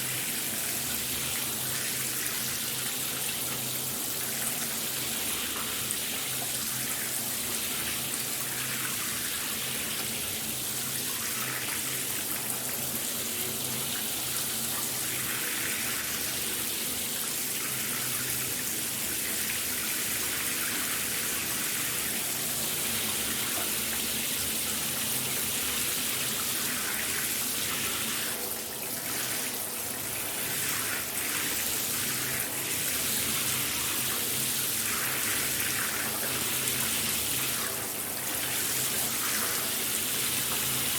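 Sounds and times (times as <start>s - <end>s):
shower running: 0.0s - 40.9s.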